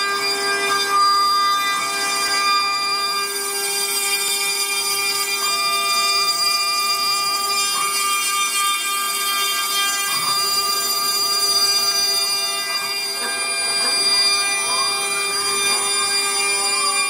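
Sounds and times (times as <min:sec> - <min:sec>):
router spindle whining: 0:00.0 - 0:17.0.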